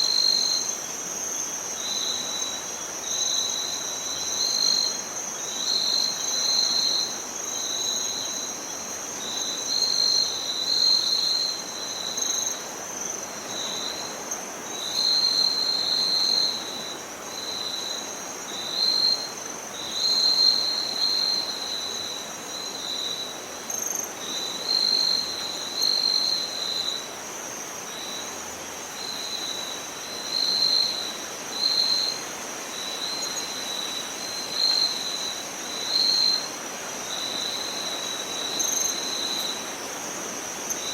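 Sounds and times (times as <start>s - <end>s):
high insect trill: 0.0s - 40.9s
lower insect trill: 0.0s - 40.9s.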